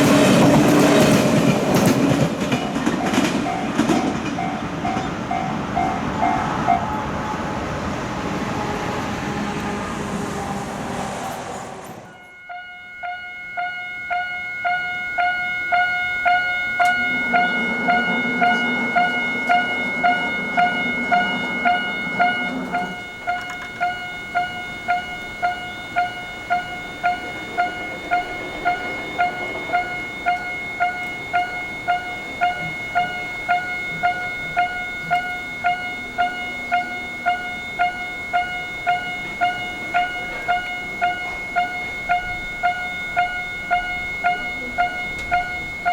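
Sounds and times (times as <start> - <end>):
level-crossing warning bell ringing: 0.0 - 45.9.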